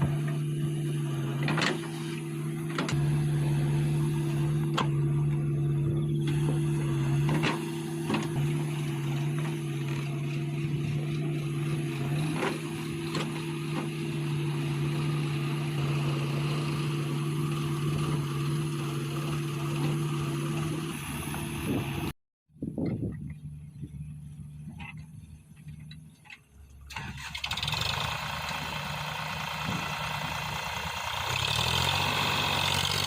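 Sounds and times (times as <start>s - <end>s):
heavy diesel engine running: 0.0s - 22.1s, 26.8s - 33.0s.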